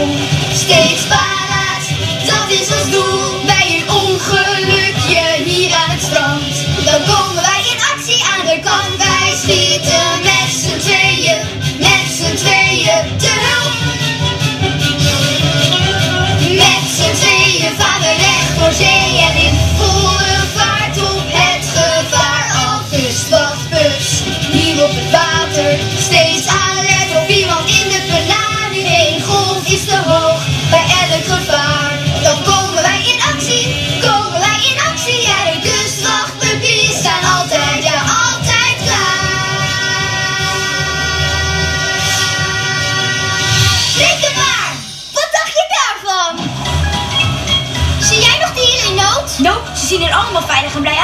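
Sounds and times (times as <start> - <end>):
upbeat children's song: 0.0 - 51.0.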